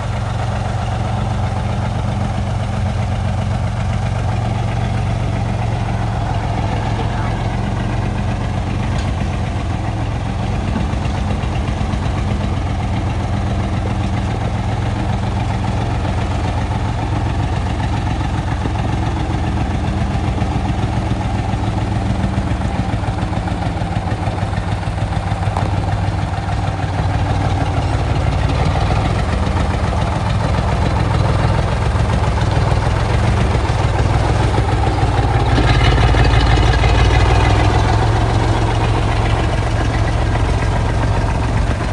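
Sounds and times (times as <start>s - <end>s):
truck engine idling: 0.0s - 41.9s.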